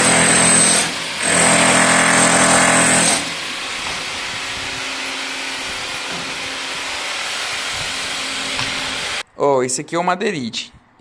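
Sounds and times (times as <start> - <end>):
power tool high whine: 0.0 - 9.2.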